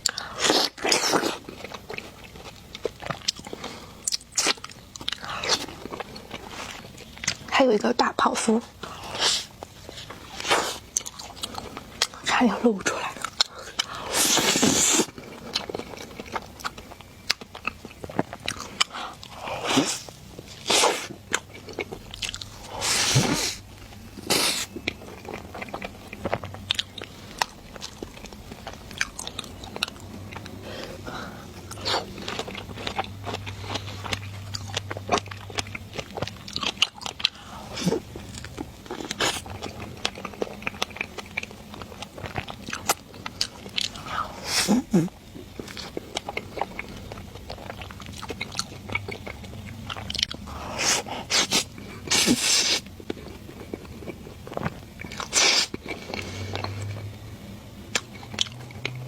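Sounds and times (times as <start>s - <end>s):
person biting and chewing food: 0.0s - 7.5s, 8.8s - 12.3s, 13.0s - 57.2s.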